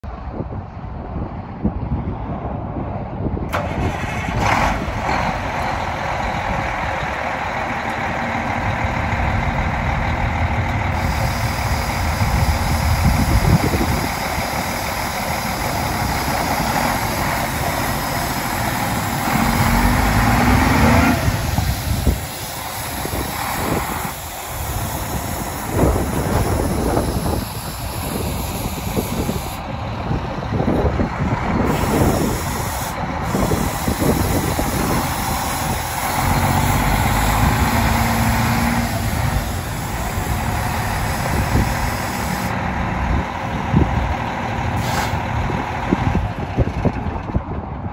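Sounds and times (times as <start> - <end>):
diesel truck engine idling: 3.4 - 47.9.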